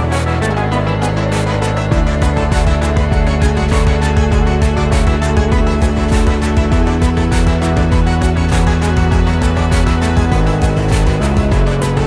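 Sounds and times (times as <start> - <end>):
background music with beat: 0.0 - 12.0
pulsing bass beat: 0.0 - 12.0.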